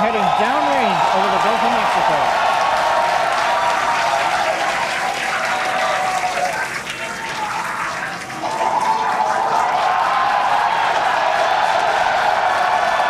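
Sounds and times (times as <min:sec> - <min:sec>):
crowd cheering: 0:00.0 - 0:13.0
crowd clapping: 0:00.0 - 0:13.0.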